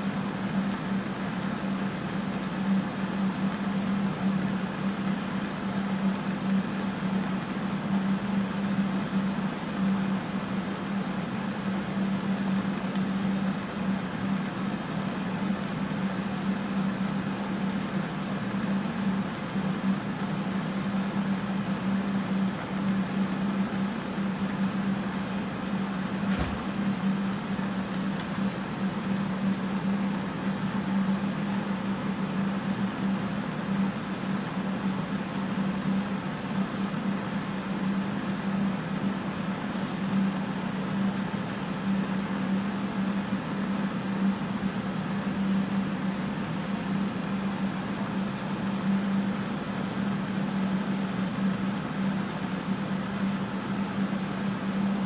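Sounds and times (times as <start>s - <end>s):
electric fans rushing: 0.0s - 55.0s
low hum: 0.0s - 55.0s.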